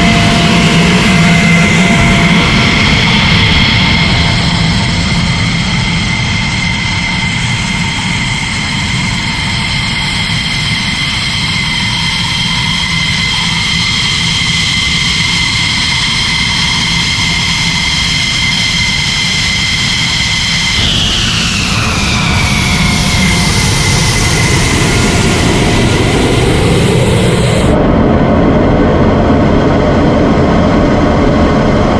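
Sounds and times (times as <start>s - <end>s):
jet engine whining and rumbling: 0.0s - 31.9s.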